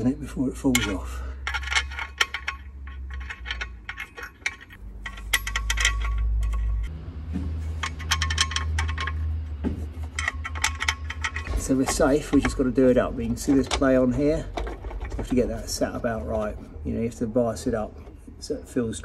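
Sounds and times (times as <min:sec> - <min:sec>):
metal bolts clinking: 0:00.0 - 0:06.9, 0:07.5 - 0:19.0.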